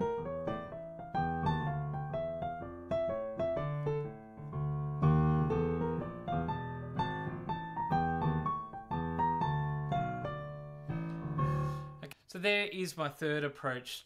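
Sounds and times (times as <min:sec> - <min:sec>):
piano playing: 0:00.0 - 0:12.1.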